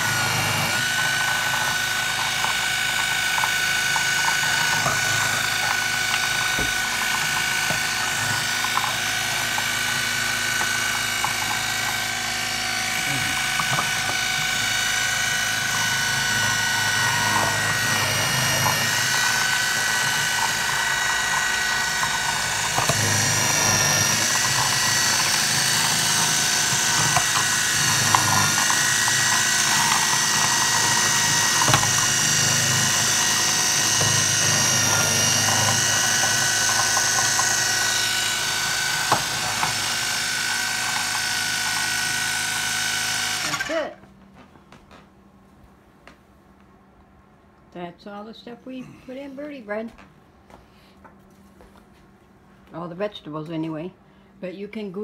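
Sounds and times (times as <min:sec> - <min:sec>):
food processor motor whining: 0:00.0 - 0:44.0.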